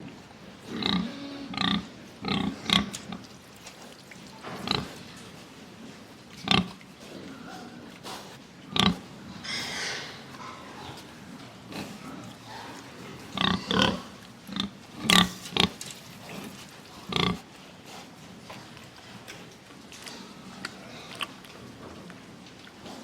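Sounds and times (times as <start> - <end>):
pigs oinking and grunting: 0.0 - 23.0.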